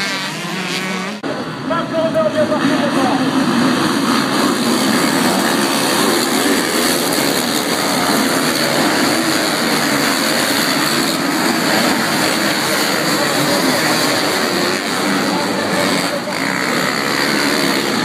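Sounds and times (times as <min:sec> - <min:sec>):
motocross bike engines racing: 0:00.0 - 0:18.0.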